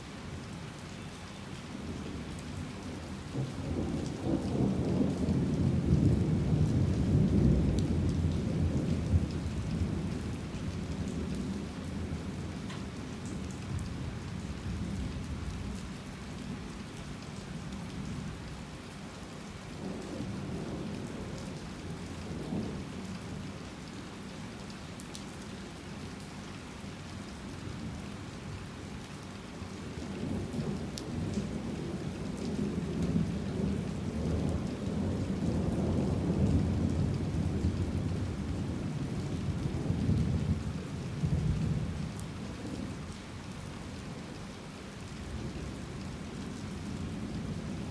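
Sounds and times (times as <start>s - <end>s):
heavy rain falling: 0.1s - 47.9s.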